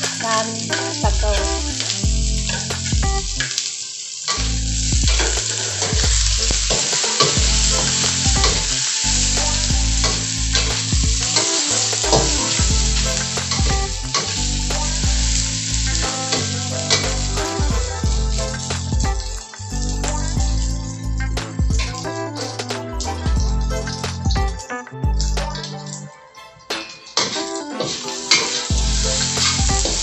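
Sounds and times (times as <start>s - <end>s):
food sizzling in hot oil: 0.0s - 22.6s, 26.9s - 30.0s.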